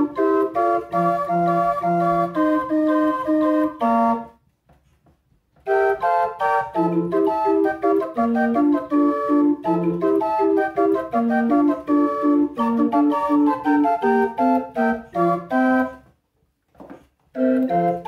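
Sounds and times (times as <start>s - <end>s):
pipe organ playing a reel: 0.0s - 4.3s, 5.7s - 16.0s, 17.4s - 18.0s.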